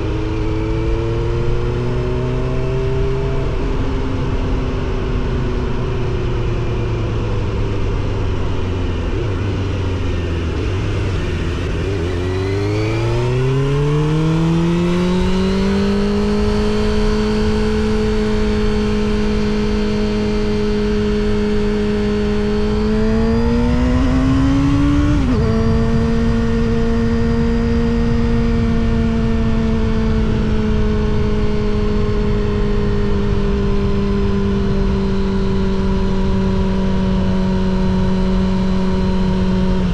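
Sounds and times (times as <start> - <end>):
motorcycle engine: 0.0 - 39.9
wind and road rush: 0.0 - 39.9.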